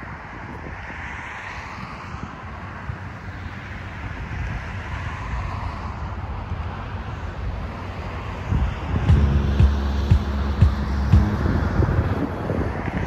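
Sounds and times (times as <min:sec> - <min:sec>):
wind rumbling on microphone: 0:00.0 - 0:13.0
cars passing: 0:00.8 - 0:13.0.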